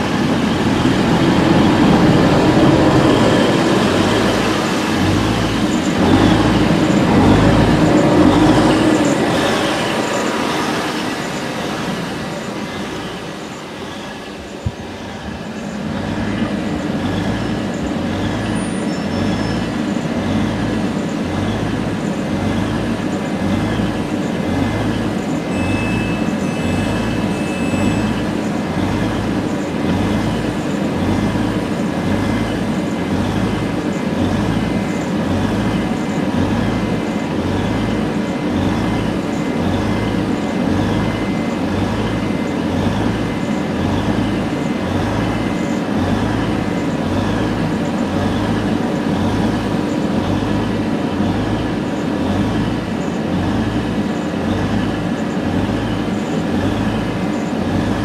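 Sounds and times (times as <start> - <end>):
diesel engine idling: 0.0 - 58.0
faint steady whine: 0.0 - 58.0.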